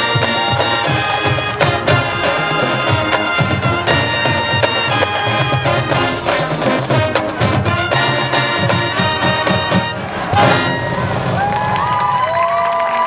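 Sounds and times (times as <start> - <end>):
marching band playing: 0.0 - 12.2.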